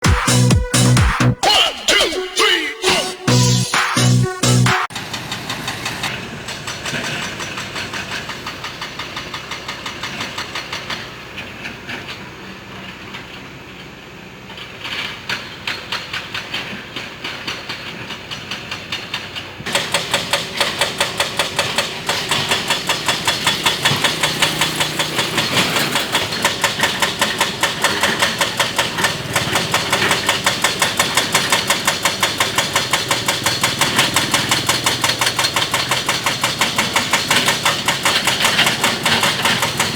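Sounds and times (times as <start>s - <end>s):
diesel engine clattering: 4.2s - 39.9s.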